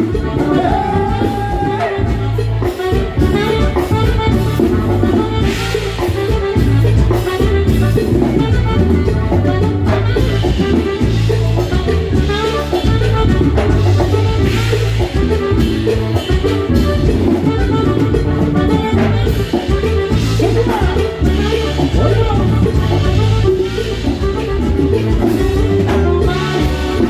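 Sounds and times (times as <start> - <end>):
live band dance music: 0.0 - 27.0.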